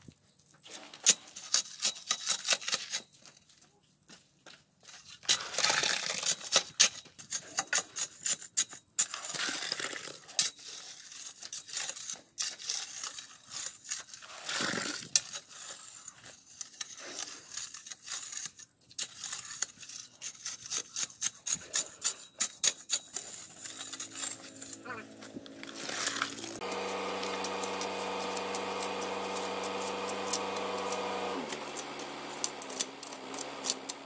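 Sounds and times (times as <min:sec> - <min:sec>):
soil and gravel scraping: 0:00.0 - 0:04.0, 0:04.6 - 0:34.0.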